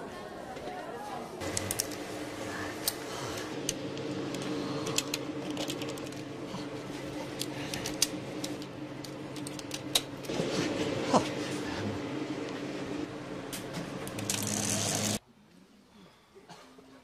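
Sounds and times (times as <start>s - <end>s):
steady low hum: 1.4s - 16.3s.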